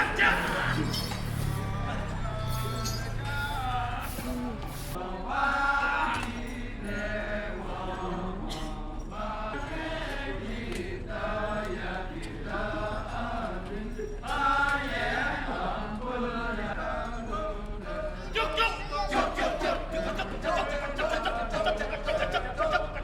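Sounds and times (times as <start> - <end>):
male voices chanting in unison: 0.0 - 23.0.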